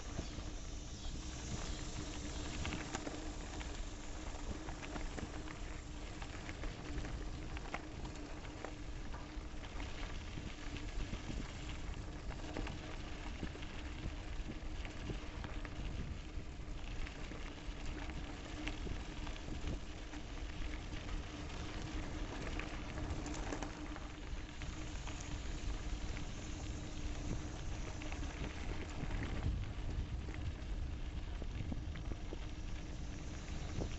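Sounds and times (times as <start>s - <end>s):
faint steady hum: 0.0s - 33.9s
wheels crunching on gravel: 0.0s - 33.9s.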